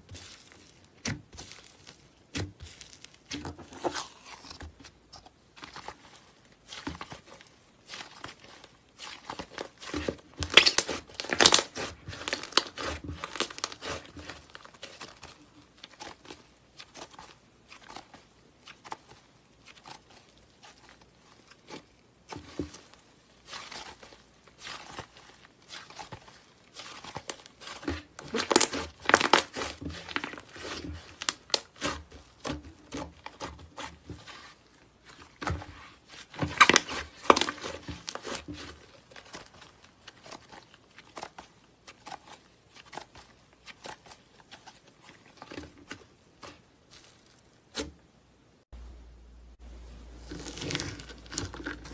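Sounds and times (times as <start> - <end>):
slime crackling and popping: 6.7 - 34.5, 35.1 - 47.8, 50.2 - 51.9.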